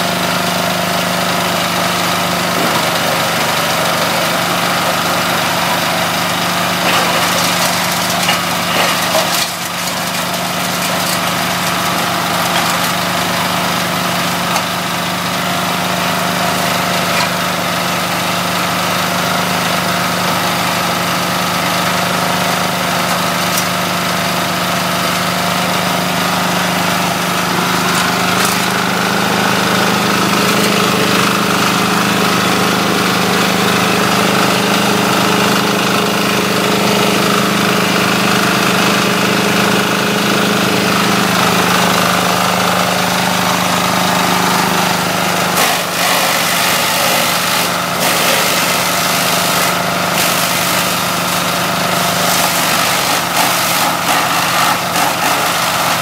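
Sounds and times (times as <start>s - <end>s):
engine-driven husk shredder running: 0.0s - 56.0s.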